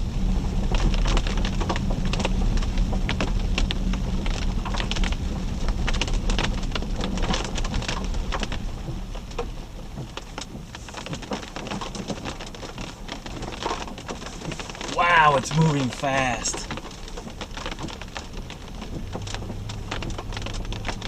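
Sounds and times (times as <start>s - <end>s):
rain tapping on a vehicle: 0.0s - 21.0s.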